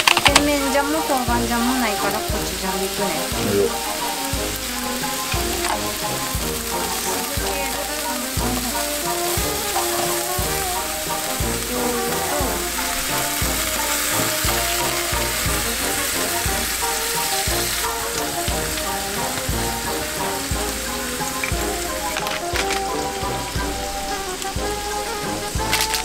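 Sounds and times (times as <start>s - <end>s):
meat sizzling in a frying pan: 0.0s - 26.0s
music with a steady beat: 0.0s - 26.0s.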